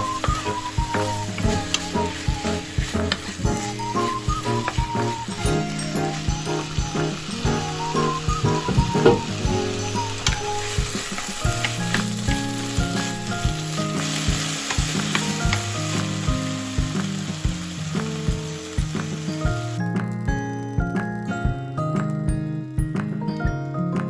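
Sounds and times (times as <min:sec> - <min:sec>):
food sizzling in frying pan: 0:00.0 - 0:21.2
background music with beat: 0:00.0 - 0:24.0.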